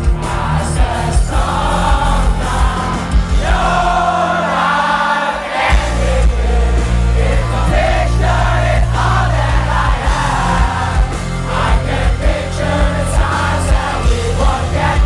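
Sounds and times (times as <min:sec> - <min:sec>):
pop-punk band playing: 0:00.0 - 0:15.0.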